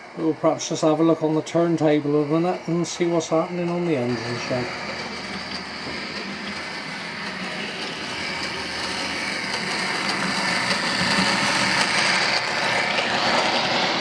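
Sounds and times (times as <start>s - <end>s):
diesel railcar engine through small speaker: 0.0s - 14.0s.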